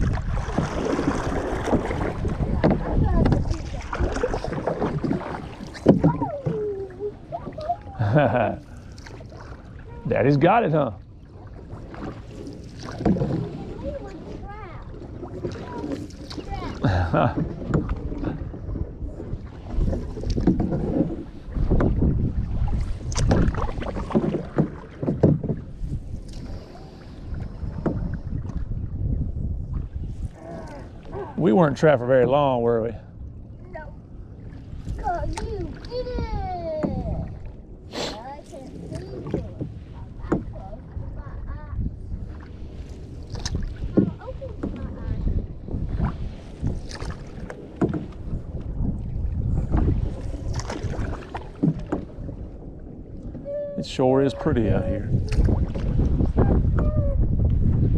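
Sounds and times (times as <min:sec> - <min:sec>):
paddles knocking and splashing: 0:00.0 - 0:28.8, 0:34.5 - 0:57.0
wind on microphone: 0:00.0 - 0:57.9.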